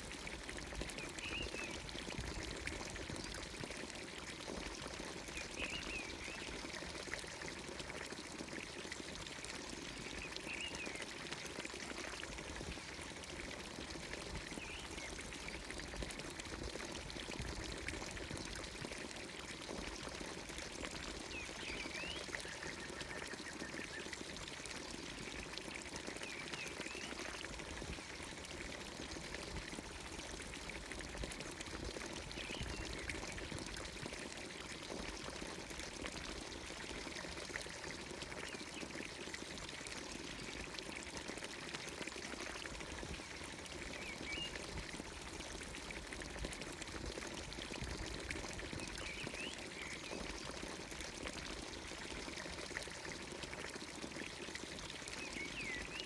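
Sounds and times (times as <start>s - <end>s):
water pouring into stone trough: 0.0s - 56.0s.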